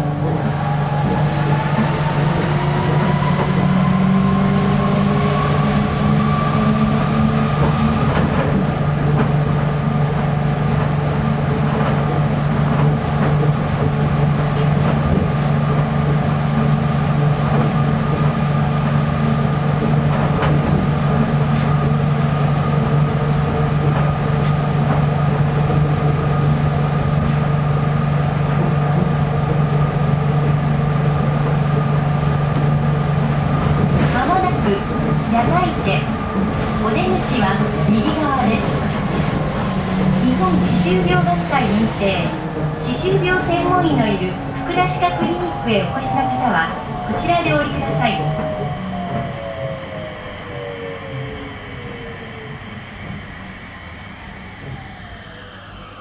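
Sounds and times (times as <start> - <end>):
train tyres humming: 0.0 - 56.0.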